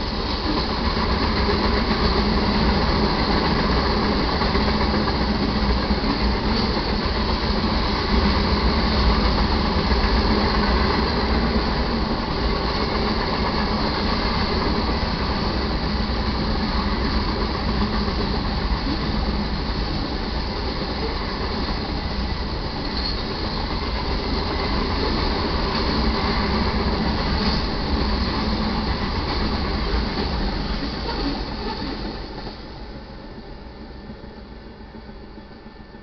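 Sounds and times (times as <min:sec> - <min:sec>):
freight train rolling over rails: 0:00.0 - 0:36.0.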